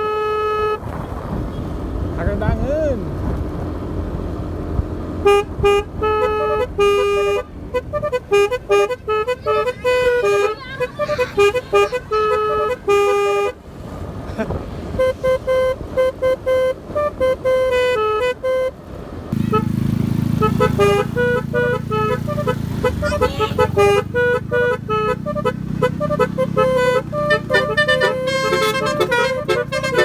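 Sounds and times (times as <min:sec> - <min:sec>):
musical bus horn tooting a tune: 0:00.0 - 0:00.9, 0:05.2 - 0:13.7, 0:14.8 - 0:30.0
low steady rumble: 0:01.3 - 0:30.0.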